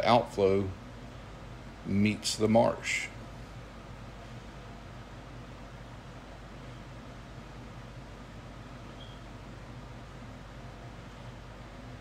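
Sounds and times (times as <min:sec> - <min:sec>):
faint low hum: 0:00.0 - 0:12.0
steady low hiss: 0:00.0 - 0:12.0.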